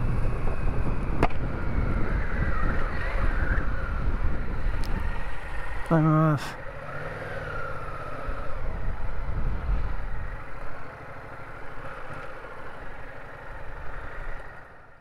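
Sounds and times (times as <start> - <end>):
motorcycle engine pulling away: 0.0 - 5.8, 6.6 - 14.9.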